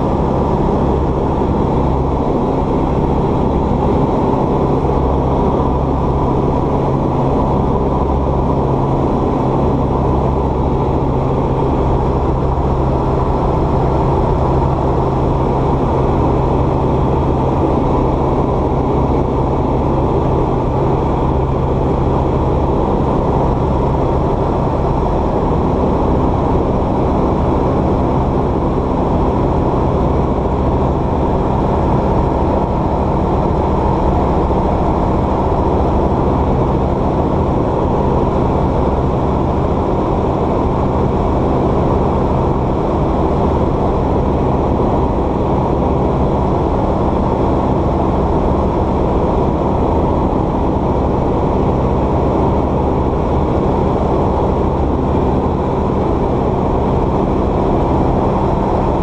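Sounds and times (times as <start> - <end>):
propeller aircraft engine from cabin: 0.0 - 59.0.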